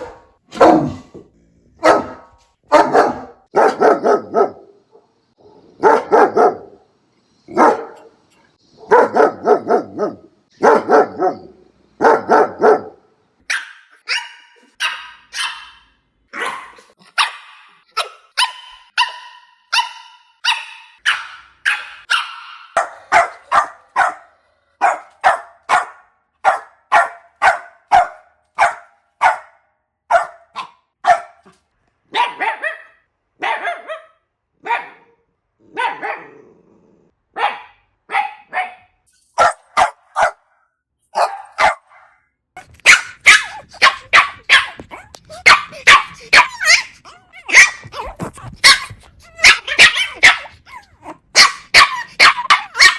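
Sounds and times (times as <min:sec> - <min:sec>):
puppies barking: 0:01.8 - 0:04.6, 0:07.5 - 0:08.1, 0:08.8 - 0:35.1, 0:35.7 - 0:36.4, 0:37.4 - 0:40.5, 0:41.2 - 0:42.1, 0:42.8 - 0:52.9.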